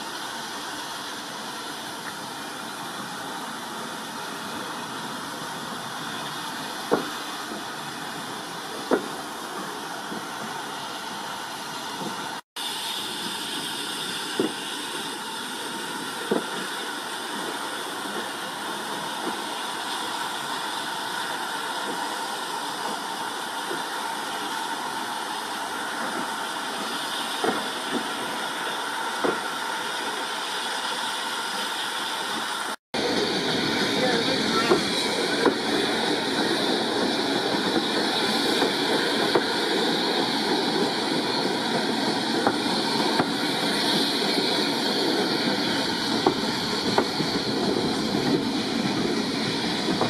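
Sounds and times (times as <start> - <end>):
steam locomotive hissing: 0.0 - 50.0.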